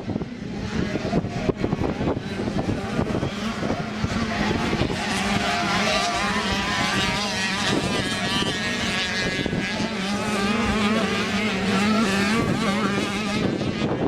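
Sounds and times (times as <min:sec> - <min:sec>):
motocross bike engines revving: 0:00.0 - 0:14.0
wind buffeting microphone: 0:00.0 - 0:14.0.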